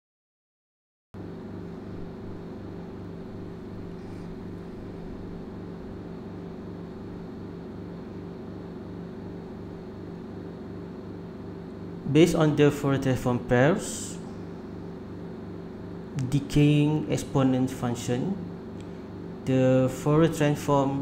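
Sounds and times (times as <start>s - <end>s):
low hum of held tones: 1.2s - 21.0s.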